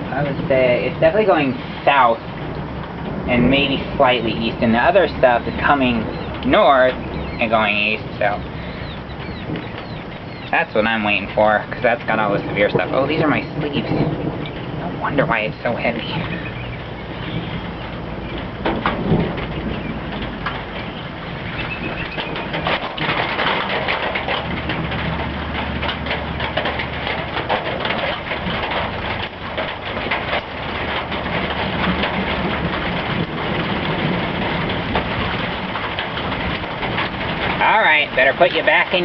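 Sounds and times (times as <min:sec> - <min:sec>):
heavy rain pouring: 0:00.0 - 0:39.0
raindrops tapping: 0:00.0 - 0:39.0.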